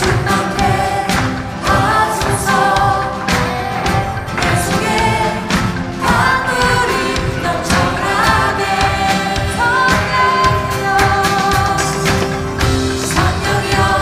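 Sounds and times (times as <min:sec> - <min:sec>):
electric guitar: 0:00.0 - 0:14.0
voices singing: 0:00.0 - 0:14.0.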